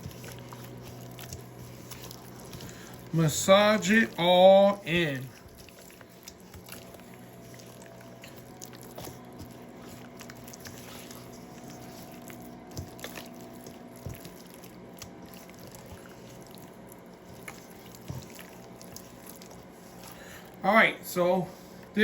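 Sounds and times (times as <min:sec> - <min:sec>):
wet squishing of meat: 0:00.0 - 0:20.6
faint steady hum: 0:00.0 - 0:22.0.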